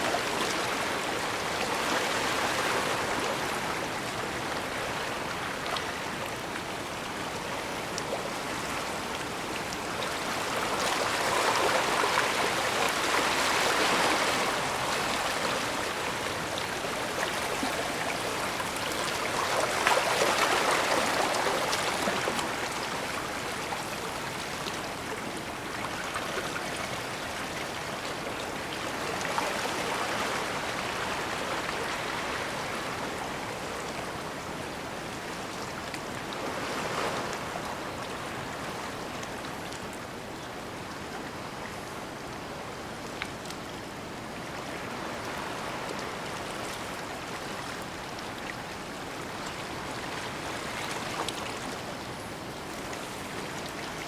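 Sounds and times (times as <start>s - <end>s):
water washing ashore: 0.0s - 54.0s.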